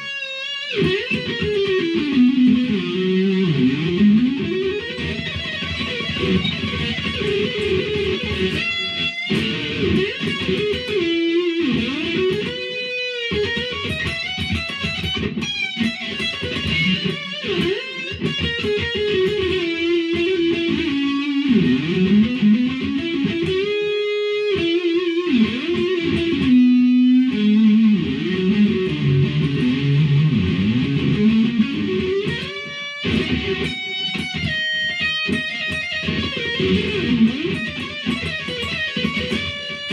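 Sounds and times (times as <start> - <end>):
electric guitar riffs: 0.0 - 39.9.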